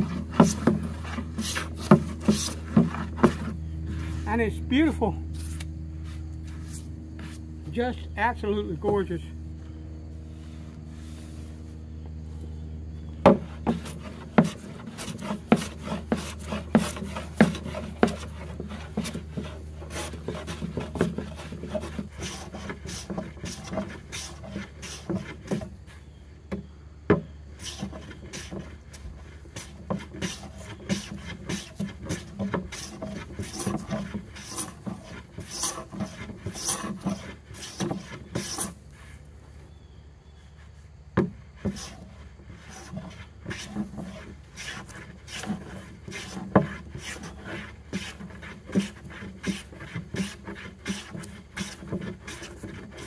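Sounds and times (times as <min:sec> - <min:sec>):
hand plane shaving wood: 0:00.0 - 0:04.4, 0:13.2 - 0:39.3, 0:40.6 - 0:53.0.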